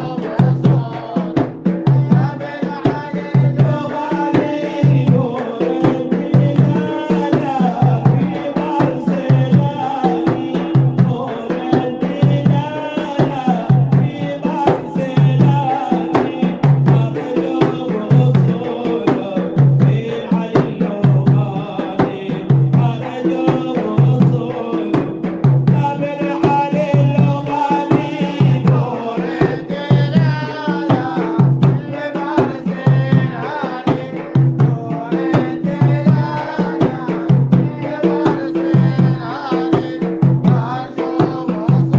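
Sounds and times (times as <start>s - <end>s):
frame drums beating: 0.0s - 41.9s
male voices chanting: 0.0s - 41.9s.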